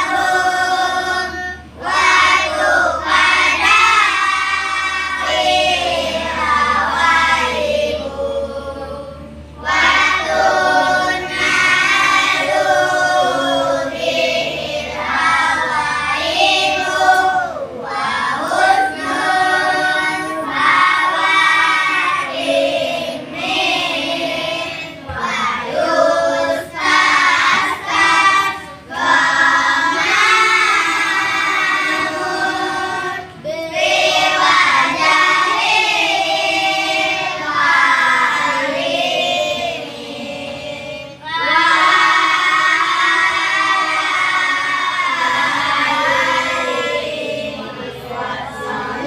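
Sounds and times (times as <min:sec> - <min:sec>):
children singing together: 0:00.0 - 0:49.0.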